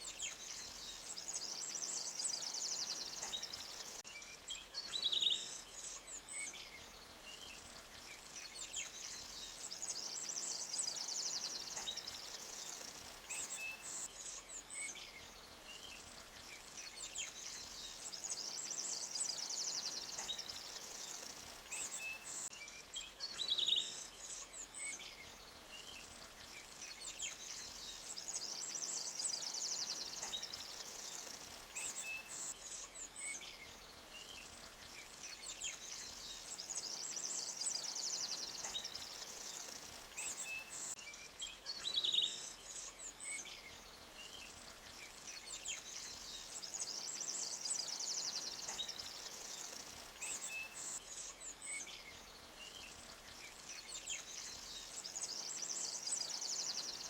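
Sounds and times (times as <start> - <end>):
small birds chirping: 0.0 - 57.0
soft high hiss: 0.0 - 57.0.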